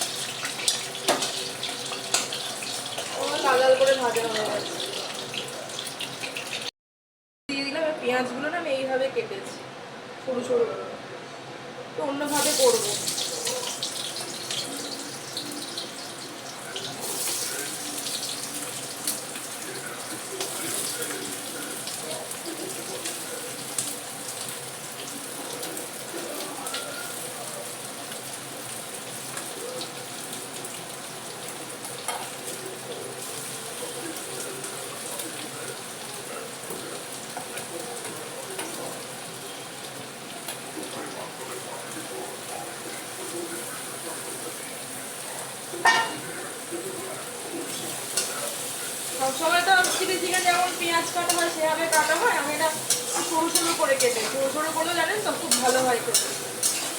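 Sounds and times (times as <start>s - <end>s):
onions sizzling in hot oil: 0.0s - 6.7s, 12.2s - 56.9s
sharp clicks of frying: 0.0s - 6.7s, 12.3s - 56.9s.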